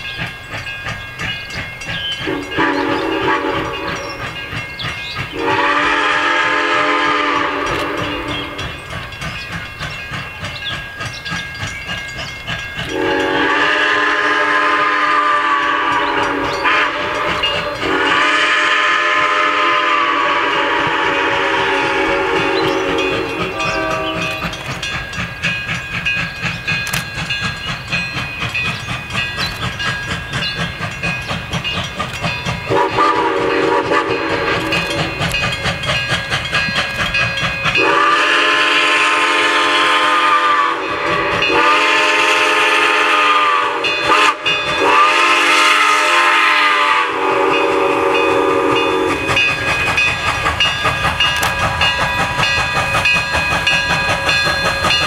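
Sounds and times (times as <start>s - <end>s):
chime steam whistle blasts: 0.0s - 55.0s
steam locomotive exhaust: 0.0s - 55.0s.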